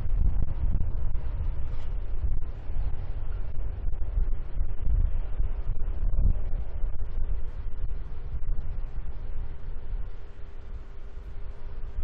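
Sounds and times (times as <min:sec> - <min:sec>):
faint jet engine whine: 0:00.0 - 0:12.0
wind buffeting microphone: 0:00.0 - 0:12.0.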